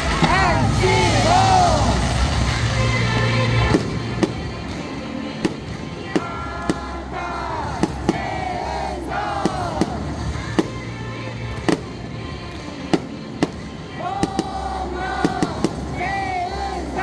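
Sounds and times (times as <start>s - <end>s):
fireworks bangs: 0.0s - 17.0s
music with singing: 0.0s - 17.0s.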